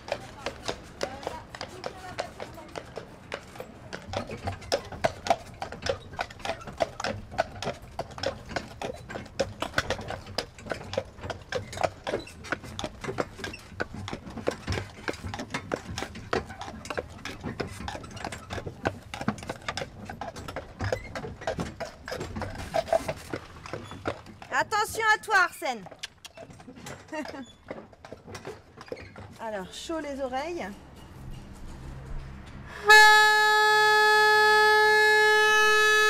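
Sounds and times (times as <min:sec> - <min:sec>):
horse hooves clip-clopping on tarmac: 0:00.0 - 0:33.0.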